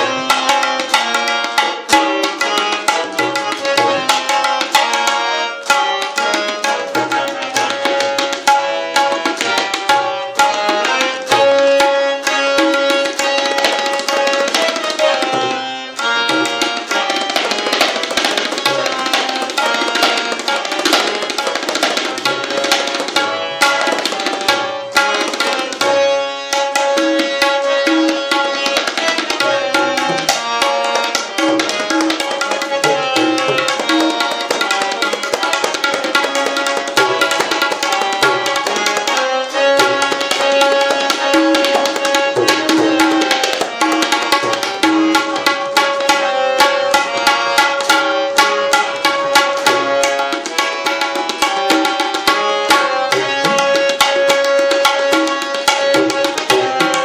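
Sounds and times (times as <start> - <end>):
harmonium melody: 0.0 - 57.0
tabla drumming: 0.0 - 57.0.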